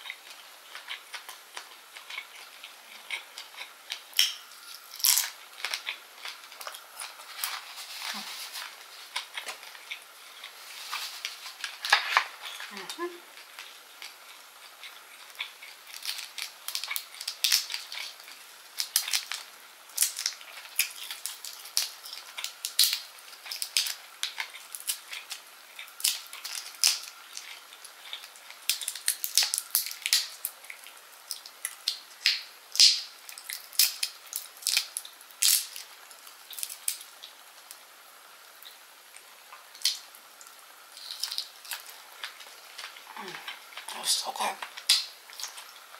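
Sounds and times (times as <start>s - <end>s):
shrimp shell crackling as peeled: 0.1s - 38.8s, 39.6s - 43.9s.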